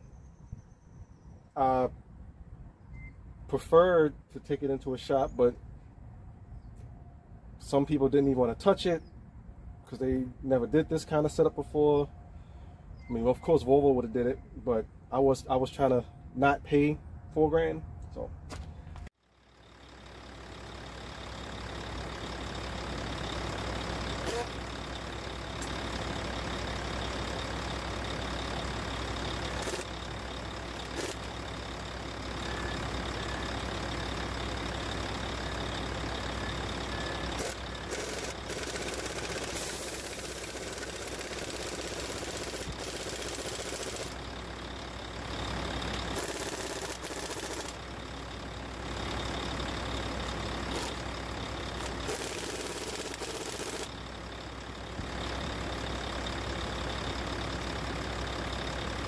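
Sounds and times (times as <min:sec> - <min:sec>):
road noise: 0:00.0 - 0:59.0
diesel truck engine droning: 0:00.1 - 0:59.0.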